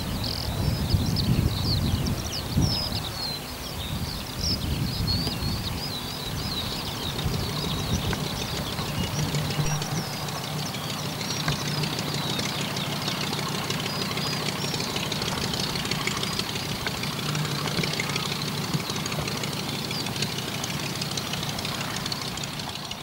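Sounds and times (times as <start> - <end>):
propeller aircraft engine droning: 0.0 - 23.0.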